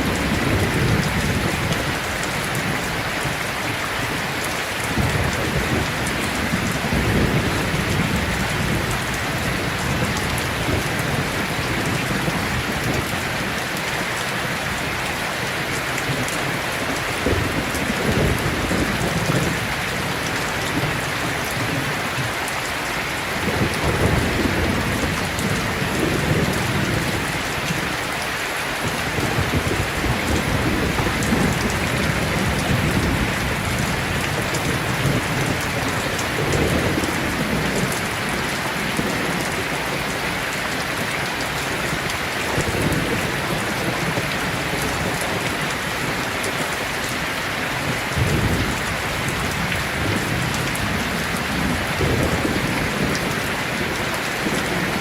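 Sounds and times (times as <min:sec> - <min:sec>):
thunder rumbling: 0:00.0 - 0:22.4, 0:23.2 - 0:28.0, 0:28.8 - 0:46.4, 0:47.7 - 0:55.0
heavy rain: 0:00.0 - 0:55.0.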